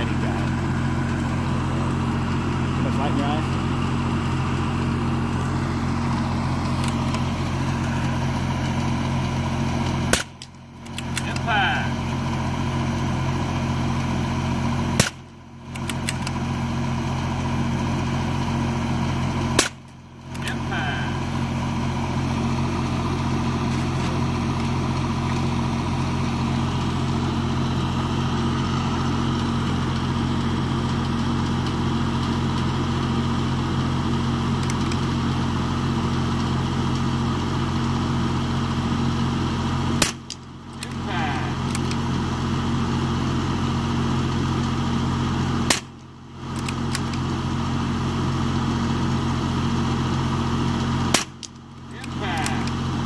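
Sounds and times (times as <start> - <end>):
generator hum: 0.0 - 53.0.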